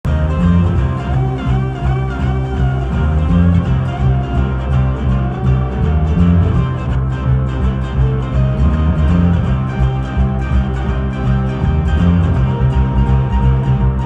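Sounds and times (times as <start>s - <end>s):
repeating bass line: 0.0s - 14.0s
plucked ukulele melody: 0.1s - 14.0s.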